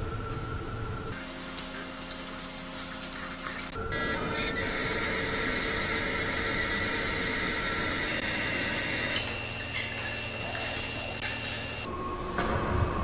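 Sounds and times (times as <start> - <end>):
faint hum tones: 0.0 - 13.0.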